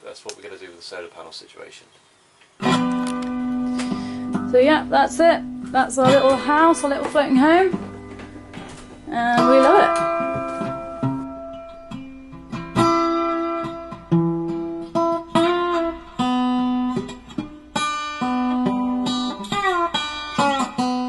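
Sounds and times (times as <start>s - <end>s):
picked guitar notes: 2.6s - 21.0s.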